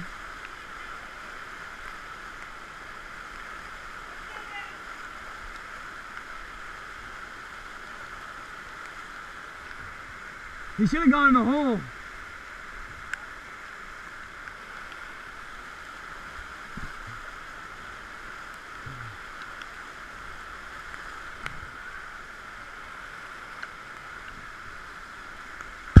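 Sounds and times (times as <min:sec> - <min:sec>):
whitewater rapid rushing: 0:00.0 - 0:26.0.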